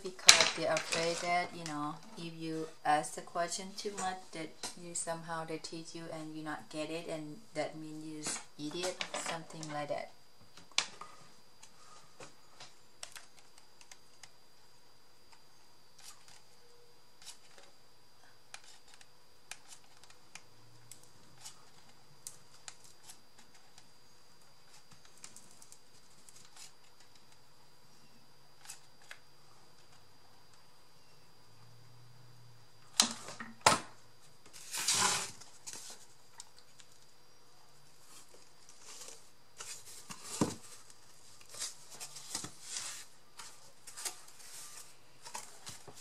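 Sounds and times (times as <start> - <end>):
faint high-pitched whine: 0.0 - 46.0.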